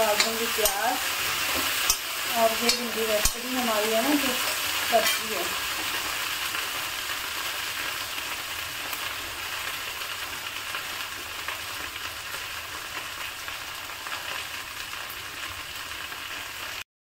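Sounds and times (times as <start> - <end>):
okra sizzling in oil: 0.0 - 16.8.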